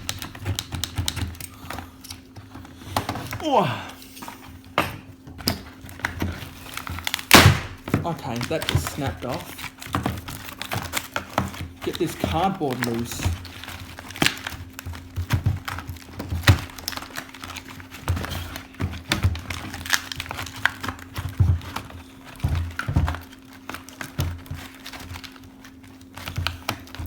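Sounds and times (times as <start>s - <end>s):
packaging knocks and crinkles: 0.0s - 3.8s, 4.6s - 27.0s.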